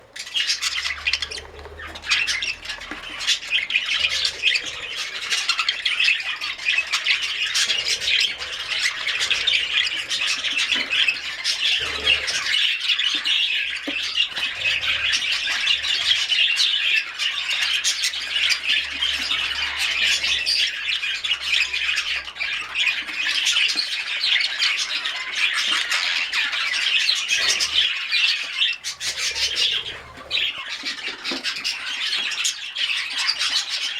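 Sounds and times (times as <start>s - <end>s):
budgerigars chattering and squawking: 0.0s - 33.9s.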